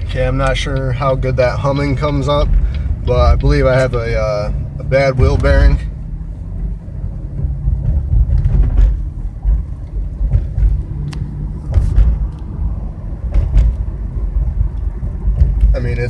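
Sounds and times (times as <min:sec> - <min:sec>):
droning hum inside a car: 0:00.0 - 0:16.0
road rumble: 0:00.0 - 0:16.0.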